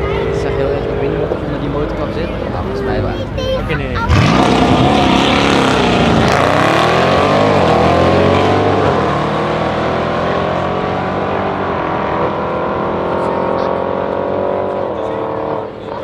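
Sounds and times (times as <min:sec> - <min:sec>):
car engine under hard throttle: 0:00.0 - 0:16.0.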